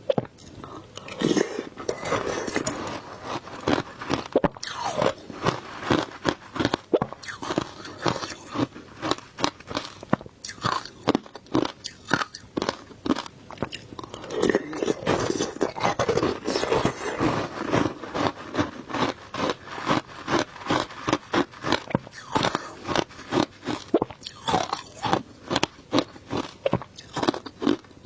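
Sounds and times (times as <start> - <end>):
crunchy ice being chewed: 0.0 - 28.0.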